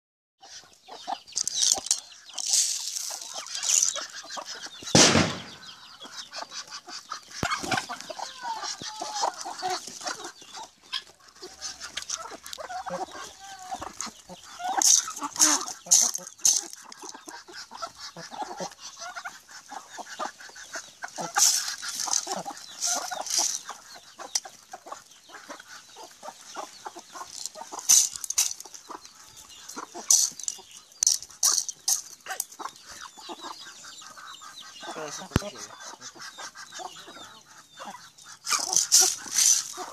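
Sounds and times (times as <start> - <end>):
chickens clucking: 0.4 - 39.9.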